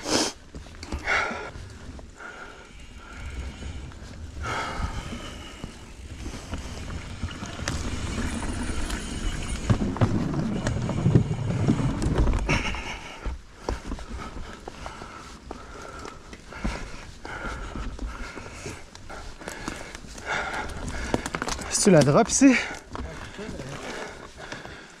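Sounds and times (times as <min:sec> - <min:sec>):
bike tyre rumble: 0:00.4 - 0:24.8
knocks and clatter over rough ground: 0:00.4 - 0:25.0.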